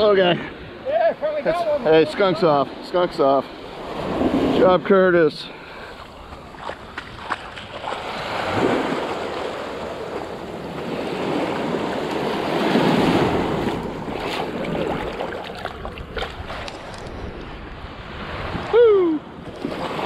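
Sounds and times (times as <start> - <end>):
surf washing at waterline: 0.0 - 20.0.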